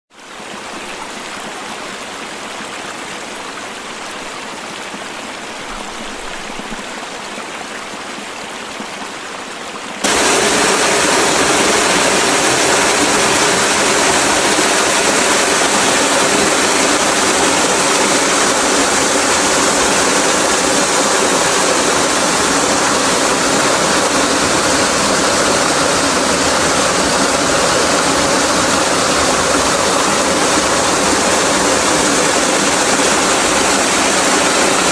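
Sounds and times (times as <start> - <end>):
waterfall rushing: 0.3 - 34.9.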